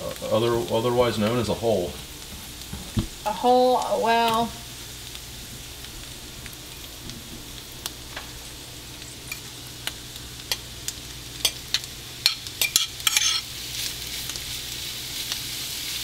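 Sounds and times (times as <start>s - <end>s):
bacon sizzling in a frying pan: 0.0s - 16.0s.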